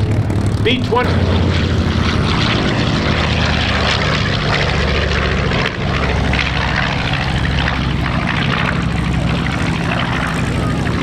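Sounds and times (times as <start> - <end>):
propeller planes flying past: 0.0 - 11.0.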